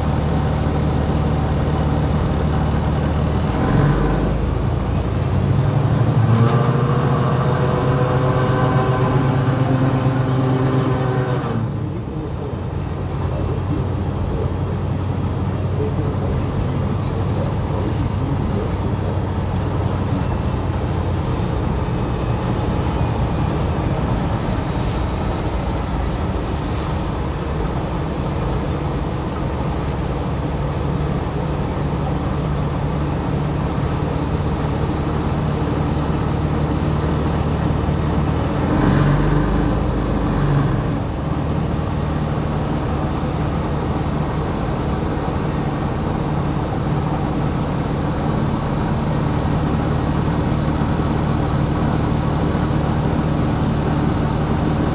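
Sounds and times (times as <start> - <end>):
bus engine and road noise: 0.0 - 54.9.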